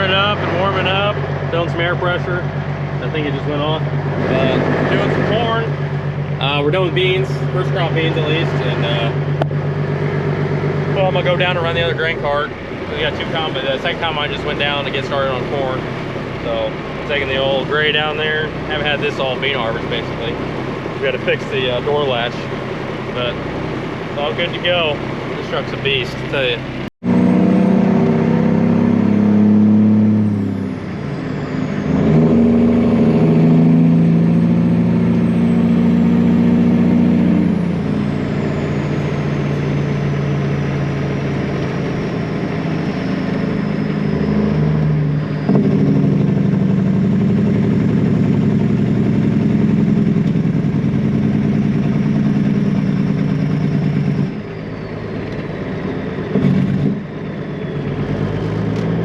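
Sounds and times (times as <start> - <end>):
diesel truck engine shifting gears: 0.0 - 59.0.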